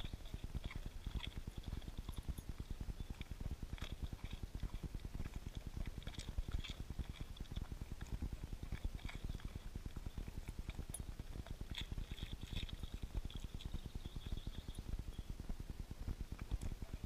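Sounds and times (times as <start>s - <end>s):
dog chewing crackers: 0.0s - 13.8s.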